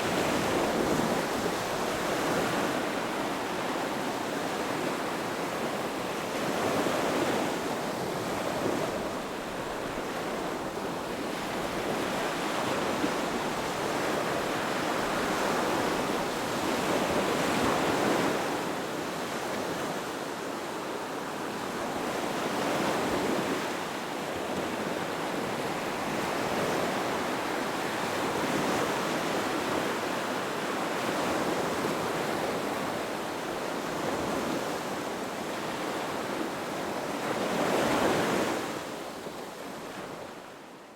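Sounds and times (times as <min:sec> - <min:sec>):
waves breaking on shore: 0:00.0 - 0:40.8.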